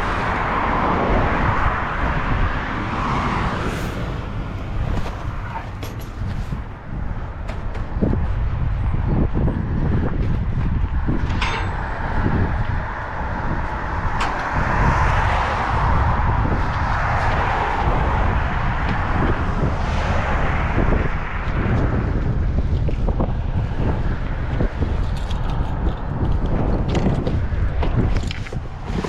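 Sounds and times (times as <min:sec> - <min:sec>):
vehicle road rumble: 0:00.0 - 0:29.0
wind rushing past: 0:00.0 - 0:29.0.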